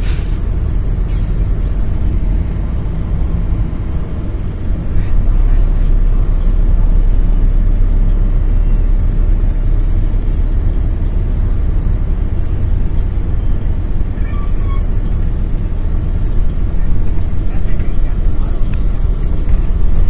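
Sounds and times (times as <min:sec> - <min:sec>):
coach engine and road rumble: 0:00.0 - 0:20.0.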